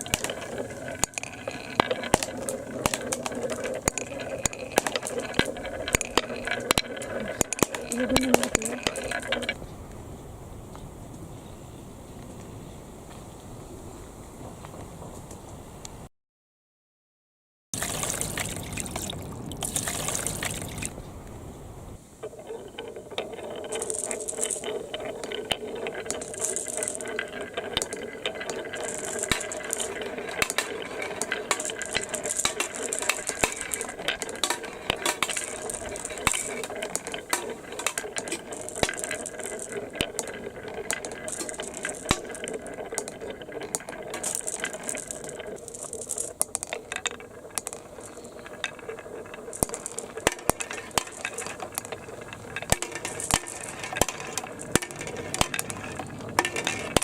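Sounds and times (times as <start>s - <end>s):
plastic balls clattering on track: 0.0s - 9.6s, 17.8s - 21.0s, 22.2s - 57.0s.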